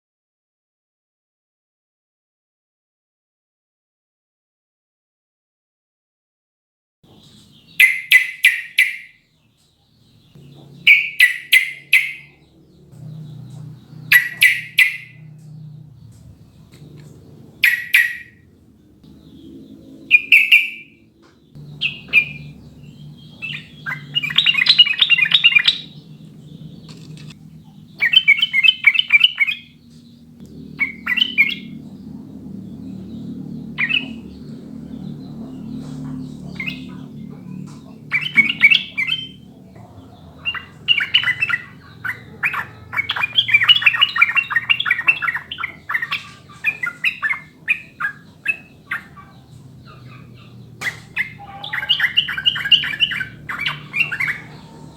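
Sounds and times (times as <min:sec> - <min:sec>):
bulbul singing: 0:07.1 - 0:54.9
faint low hum: 0:07.1 - 0:54.9.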